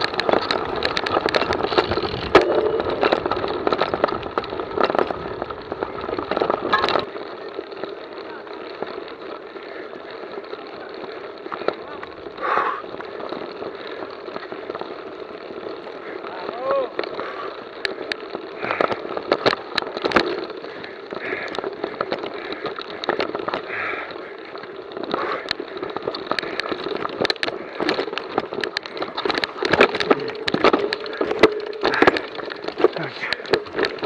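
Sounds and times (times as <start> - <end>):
bike rattling clicks and knocks: 0.0 - 34.0
steady rushing noise: 0.0 - 34.0.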